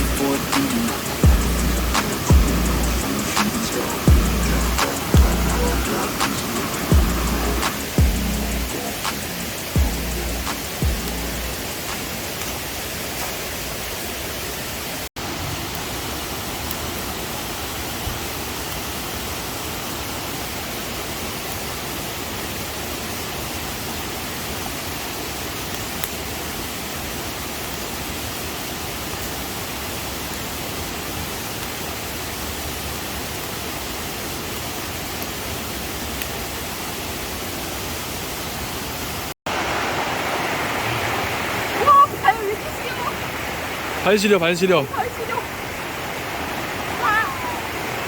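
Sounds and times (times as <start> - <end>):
mountain stream flowing: 0.0 - 48.0.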